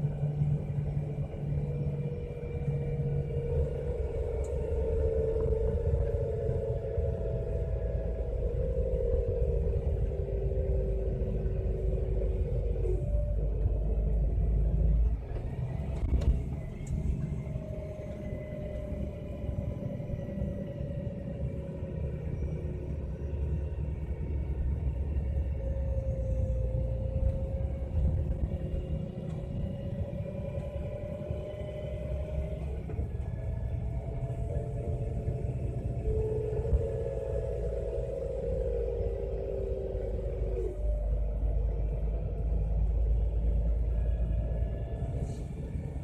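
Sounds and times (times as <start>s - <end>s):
bus retarder braking rumble: 0.0s - 46.0s.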